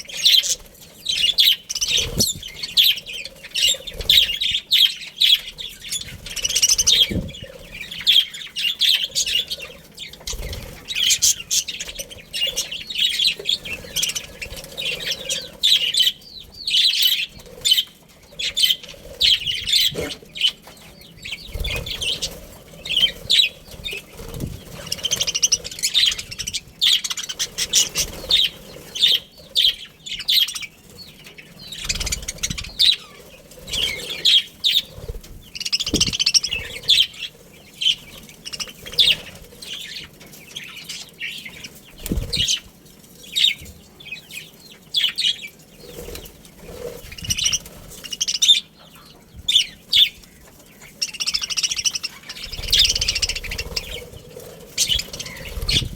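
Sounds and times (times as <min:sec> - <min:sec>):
wings flapping: 0:00.0 - 0:16.2, 0:17.1 - 0:43.7, 0:45.8 - 0:48.6, 0:49.9 - 0:55.9
budgerigars chirping: 0:00.0 - 0:55.9.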